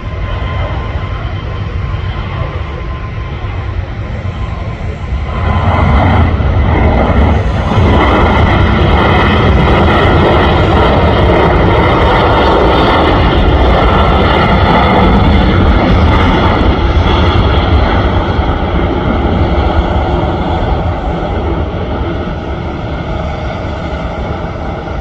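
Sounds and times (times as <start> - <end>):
airliner engines roaring: 0.0 - 25.0.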